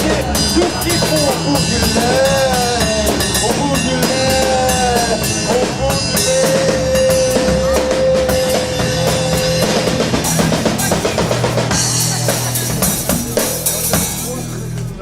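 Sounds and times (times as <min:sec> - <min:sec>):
band music with drum kit: 0:00.0 - 0:15.0.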